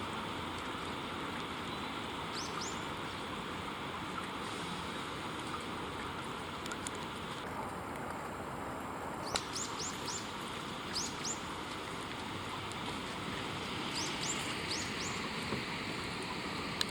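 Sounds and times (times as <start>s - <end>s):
steady background hiss: 0.0s - 16.9s.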